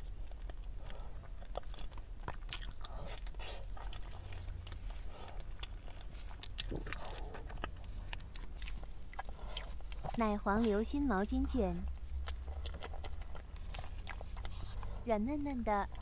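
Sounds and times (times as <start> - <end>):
biting and chewing: 0.0 - 16.0.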